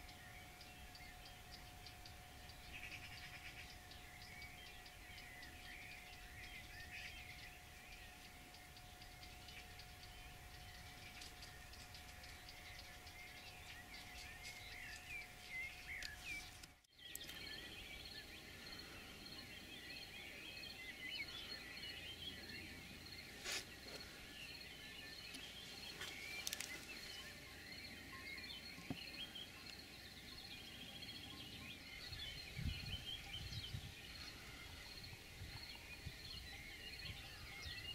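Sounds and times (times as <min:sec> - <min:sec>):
faint steady hum: 0:00.0 - 0:37.9
small birds chirping: 0:00.0 - 0:37.9.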